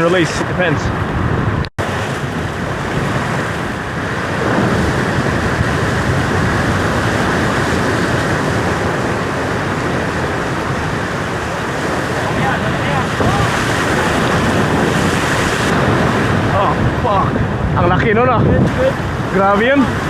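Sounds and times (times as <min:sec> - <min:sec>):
ocean surf rushing: 0:00.0 - 0:20.0.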